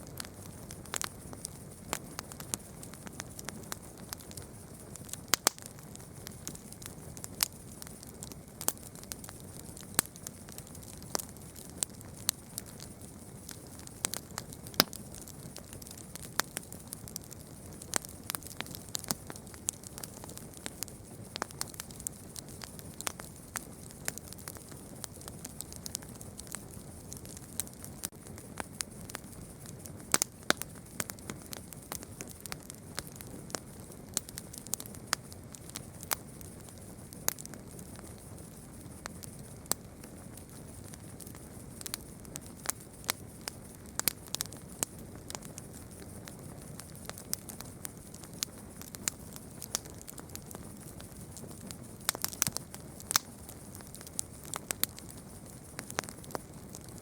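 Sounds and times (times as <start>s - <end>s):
campfire crackling and popping: 0.0s - 57.0s
hiss of flames: 0.0s - 57.0s.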